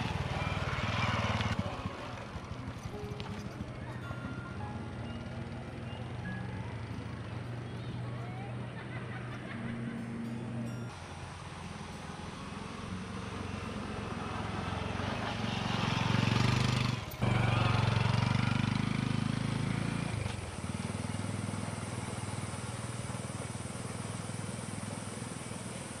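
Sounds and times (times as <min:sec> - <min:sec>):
motorcycle engine running: 0:00.0 - 0:08.9, 0:11.2 - 0:26.0.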